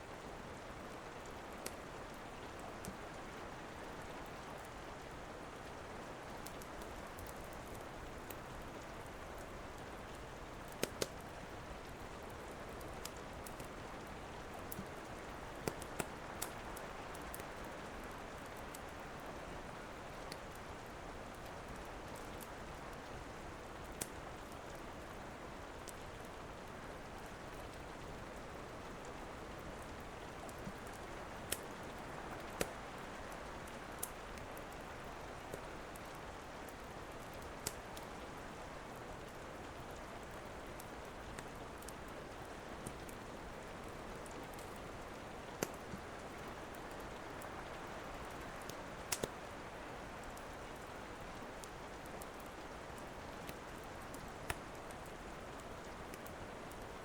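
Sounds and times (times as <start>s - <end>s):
steady rain: 0.0s - 57.0s
wood fire crackling: 0.6s - 57.0s.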